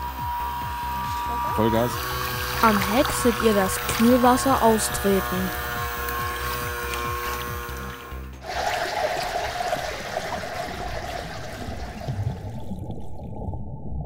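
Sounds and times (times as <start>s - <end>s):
background music: 0.0s - 12.3s
bubbling trickling water: 1.9s - 14.0s.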